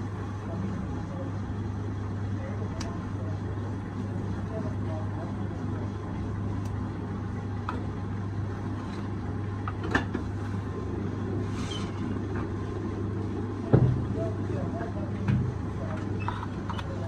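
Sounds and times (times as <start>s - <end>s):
potter's wheel humming: 0.0s - 17.0s.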